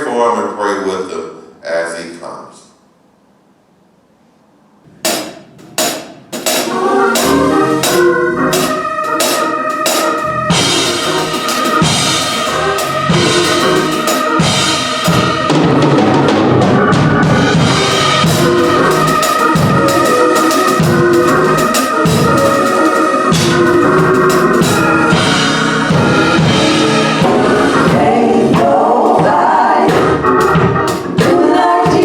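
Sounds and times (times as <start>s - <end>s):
drum kit hits: 4.9s - 32.0s
organ and drums playing: 5.0s - 32.0s.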